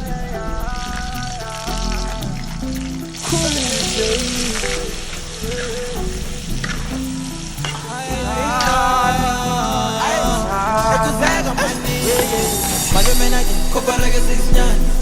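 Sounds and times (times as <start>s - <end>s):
background music with bass: 0.0s - 15.0s.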